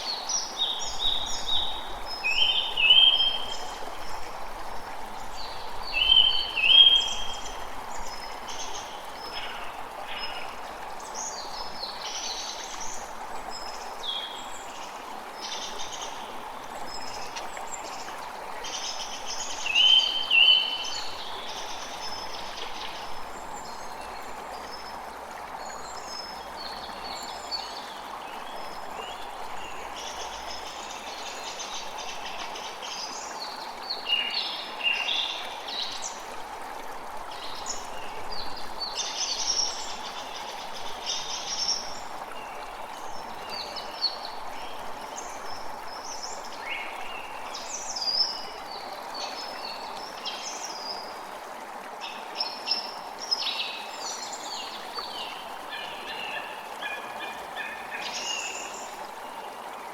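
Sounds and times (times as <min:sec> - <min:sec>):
creek running: 0:00.0 - 0:59.9.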